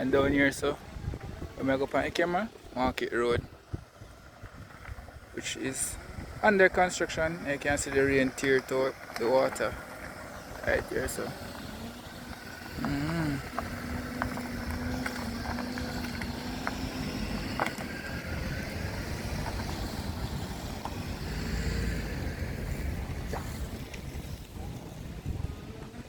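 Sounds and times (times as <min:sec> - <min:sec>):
engine hum: 0:00.0 - 0:26.0
wind rumbling on microphone: 0:00.0 - 0:26.0.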